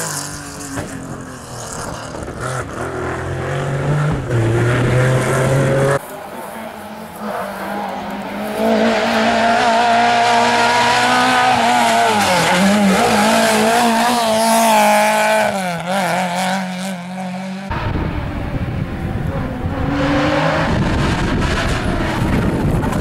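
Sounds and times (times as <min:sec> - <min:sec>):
rally car engine revving: 0:00.0 - 0:23.0
rough engine noise: 0:00.0 - 0:23.0.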